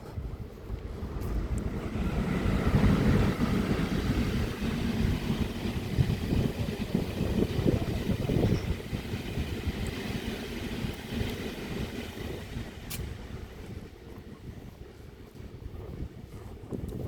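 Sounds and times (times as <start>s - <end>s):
train passing rumble: 0.0s - 17.0s
wind buffeting microphone: 0.0s - 17.0s.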